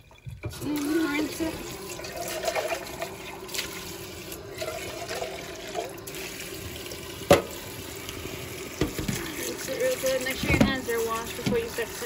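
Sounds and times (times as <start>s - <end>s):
tap water splashing: 0.0s - 12.0s.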